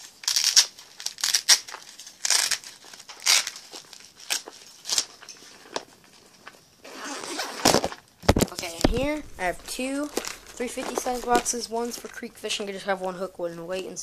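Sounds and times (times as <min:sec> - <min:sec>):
plastic rustling and crinkling: 0:00.0 - 0:12.6.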